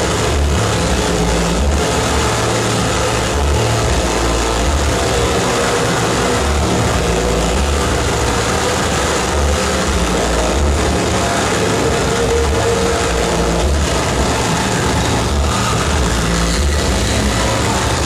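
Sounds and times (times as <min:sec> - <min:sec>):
distorted harsh noise: 0:00.0 - 0:18.0
pulsing low rumble: 0:00.0 - 0:18.0.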